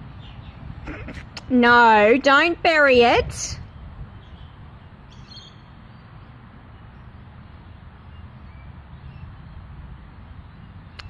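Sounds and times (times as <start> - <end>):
low outdoor rumble and hiss: 0.0 - 11.0.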